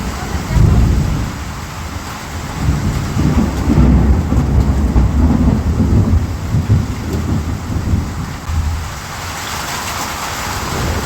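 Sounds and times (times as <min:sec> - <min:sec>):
rolling thunder rumble: 0:00.0 - 0:11.0
steady rain: 0:00.0 - 0:11.0.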